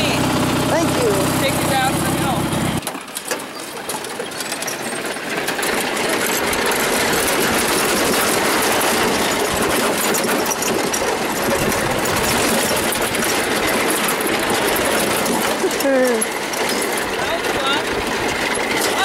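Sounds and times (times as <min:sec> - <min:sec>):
lawn tractor engine running: 0:00.0 - 0:19.0.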